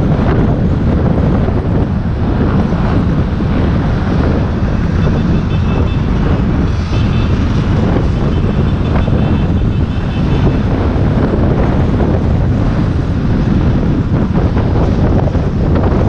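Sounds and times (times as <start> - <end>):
road and traffic noise: 0.0 - 16.0
wind buffeting microphone: 0.0 - 16.0.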